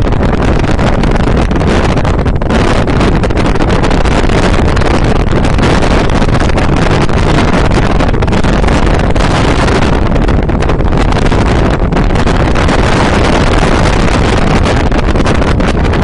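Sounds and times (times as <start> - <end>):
boat engine: 0.0 - 16.0
water noise: 0.0 - 16.0
wind on microphone: 0.0 - 16.0.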